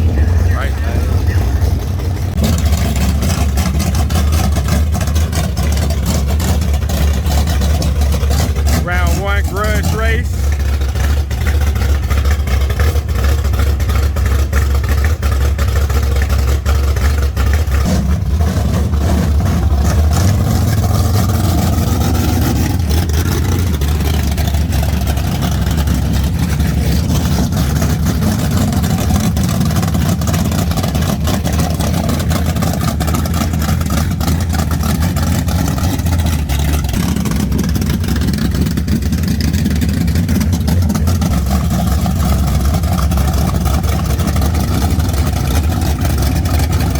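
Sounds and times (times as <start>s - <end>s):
car engine running: 0.0s - 46.9s.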